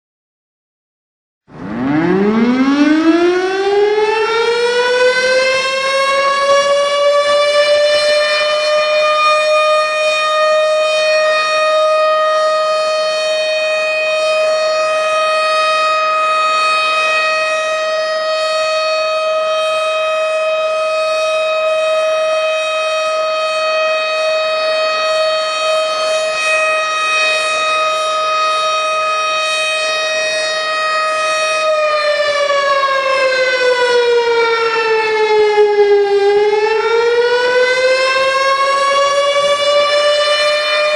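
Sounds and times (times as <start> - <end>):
air-raid siren wailing: 1.4 - 40.9.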